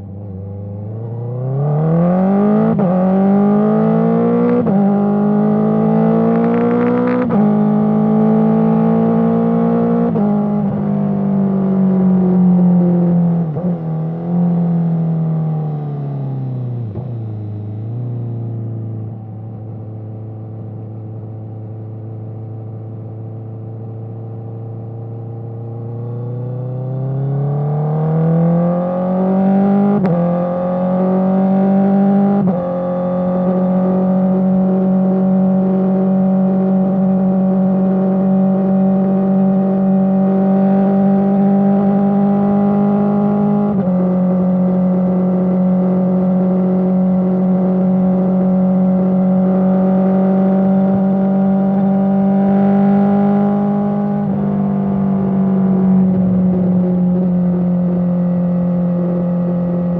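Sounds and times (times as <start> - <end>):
motorcycle engine revving: 1.1 - 14.9, 24.3 - 59.9.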